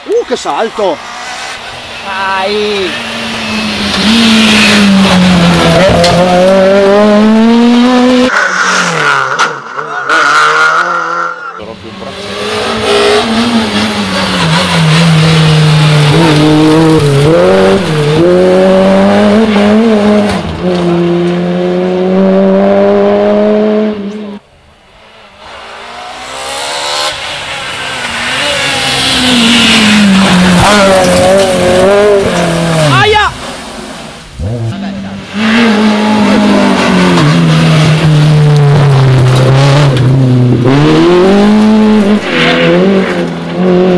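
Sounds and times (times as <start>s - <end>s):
rally car engine revving: 0.0s - 24.4s, 25.0s - 43.9s.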